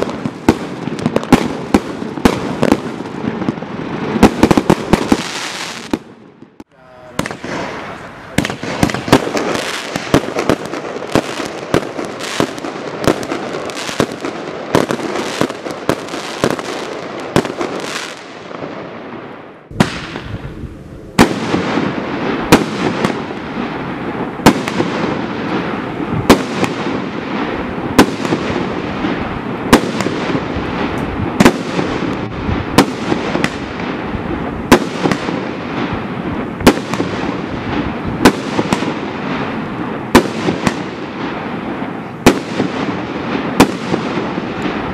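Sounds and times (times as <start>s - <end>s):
fireworks shots over crackle: 0.0s - 19.0s, 19.7s - 20.4s, 21.2s - 44.9s
fireworks bangs: 0.0s - 44.9s.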